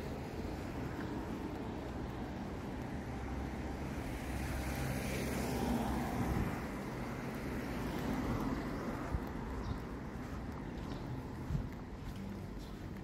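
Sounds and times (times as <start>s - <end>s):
cars driving slowly past: 0.0s - 13.0s.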